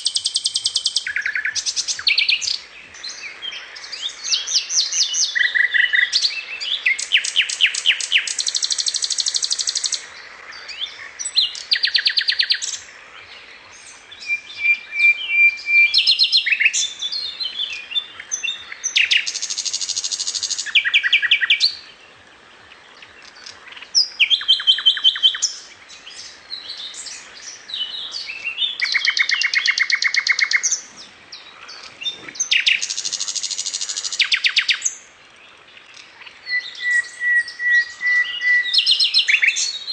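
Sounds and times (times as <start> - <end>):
songbird trilling and chirping: 0.0 - 22.0, 22.7 - 39.9.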